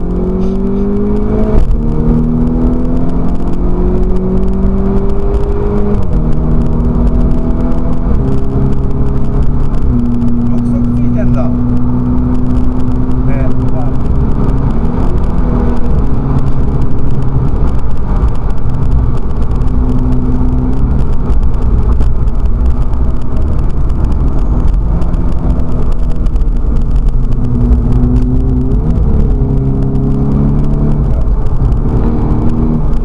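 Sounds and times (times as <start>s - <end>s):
race car engine revving: 0.0s - 33.0s
road rumble: 0.0s - 33.0s.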